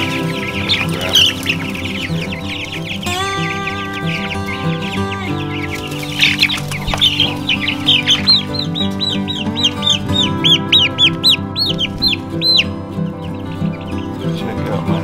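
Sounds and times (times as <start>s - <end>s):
background music: 0.0s - 15.0s
chicks peeping: 0.0s - 15.0s.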